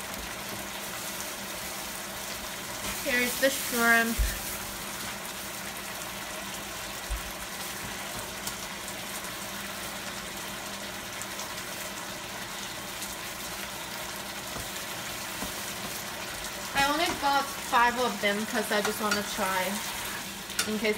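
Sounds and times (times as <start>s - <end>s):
food sizzling and bubbling in a pan: 0.0s - 20.9s.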